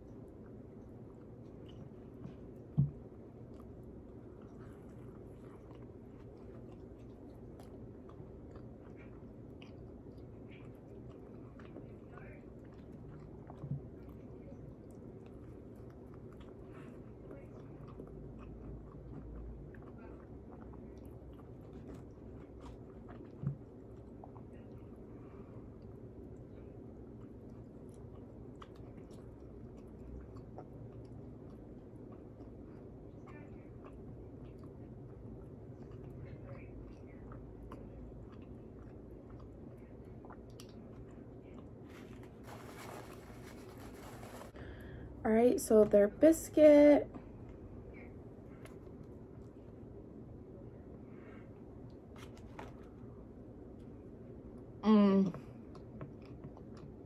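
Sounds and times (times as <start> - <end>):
chewing crisp food: 0.0 - 45.1, 47.0 - 54.8, 55.4 - 57.0.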